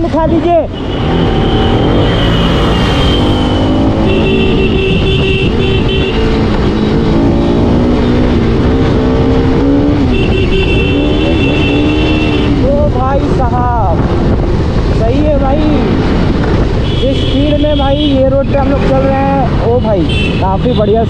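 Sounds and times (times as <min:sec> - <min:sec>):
wind rumble on microphone: 0:00.0 - 0:20.8.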